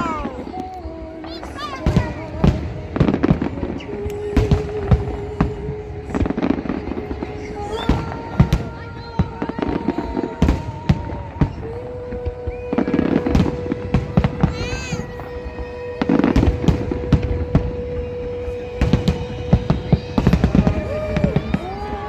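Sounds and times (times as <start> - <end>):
fireworks bangs and crackles: 0.0 - 22.0
music playing: 0.0 - 22.0.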